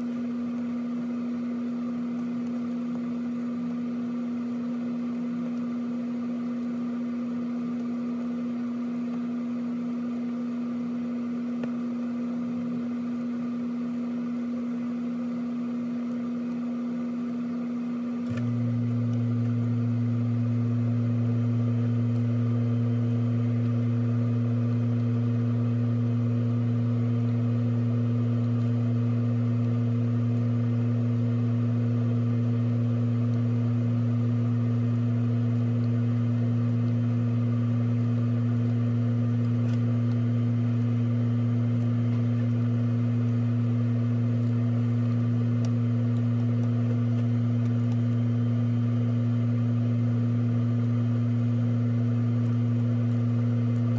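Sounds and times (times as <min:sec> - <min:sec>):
low electrical hum: 0:00.0 - 0:53.9.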